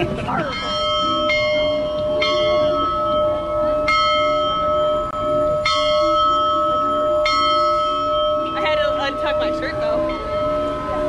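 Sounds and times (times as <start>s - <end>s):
large bell ringing: 0.0s - 11.0s.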